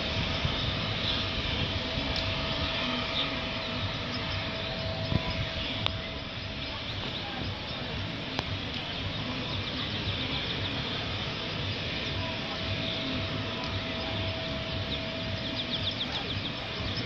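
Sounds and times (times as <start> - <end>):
outdoor background hiss and rumble: 0.0 - 17.0
small bird chirping: 0.1 - 17.0.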